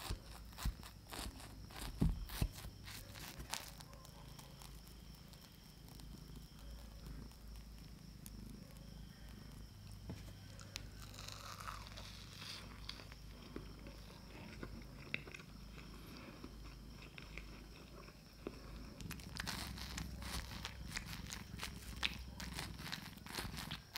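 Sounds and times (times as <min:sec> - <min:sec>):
close chewing: 0:00.0 - 0:23.9.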